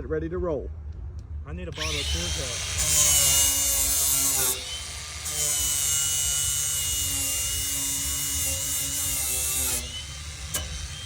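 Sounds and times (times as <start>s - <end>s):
grinder whining on metal: 1.8s - 11.0s.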